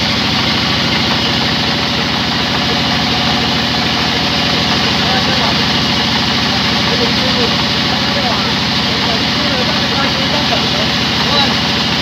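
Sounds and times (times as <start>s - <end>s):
engine low chugging: 0.0s - 12.0s.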